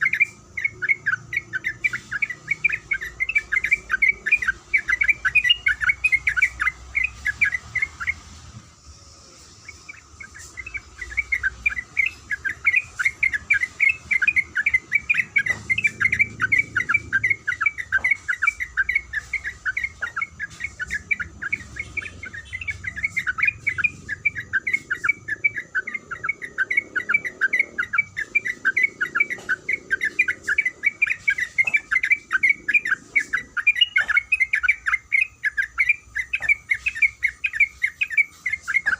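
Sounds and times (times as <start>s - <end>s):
bird singing repeated notes: 0.0s - 38.9s.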